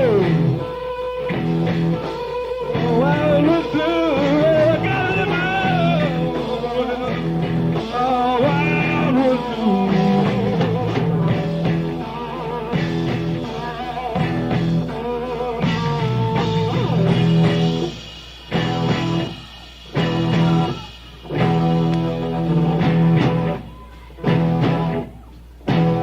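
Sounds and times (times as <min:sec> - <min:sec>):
steady bass line: 0:00.0 - 0:00.7, 0:01.3 - 0:02.1, 0:02.7 - 0:26.0
lead guitar bent notes: 0:00.0 - 0:26.0
rock band playing blues: 0:00.0 - 0:26.0.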